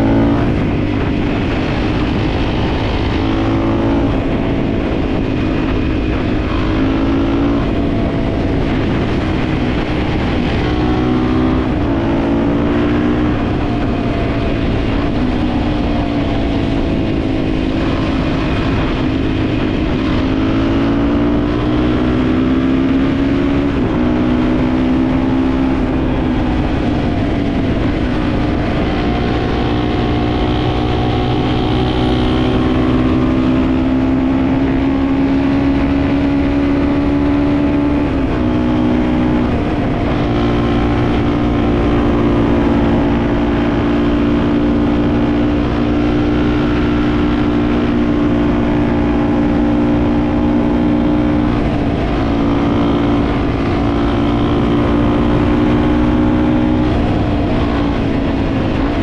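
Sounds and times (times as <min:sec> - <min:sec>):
dirt bike engine revving: 0:00.0 - 0:59.0
wind rush: 0:00.0 - 0:59.0.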